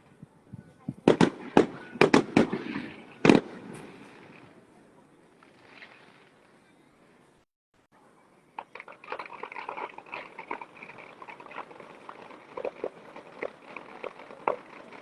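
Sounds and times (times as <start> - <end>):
fireworks crackling: 0.8 - 6.6, 8.6 - 15.0.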